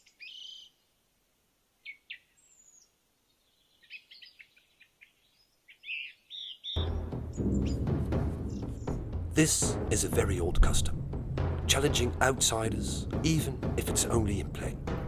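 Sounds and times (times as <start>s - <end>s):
birds chirping: 0.0s - 1.0s, 1.8s - 15.0s.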